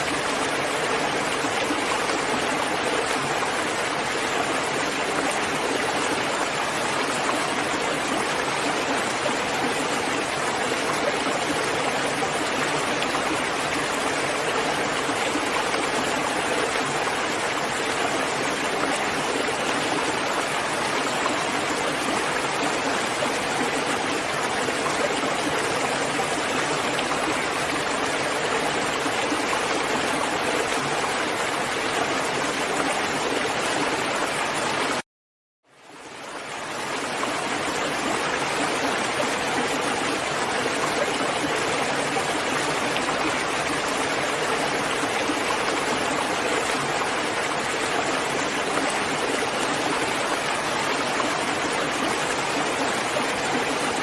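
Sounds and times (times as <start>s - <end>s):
steady rain: 0.0s - 35.0s, 35.7s - 54.0s.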